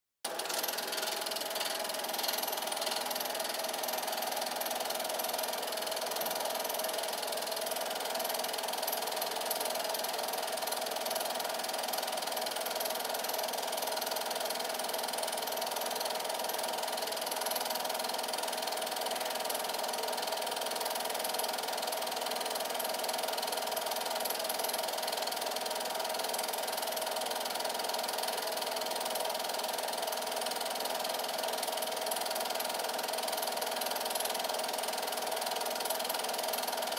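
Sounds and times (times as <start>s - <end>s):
film projector whirring: 0.2s - 36.9s.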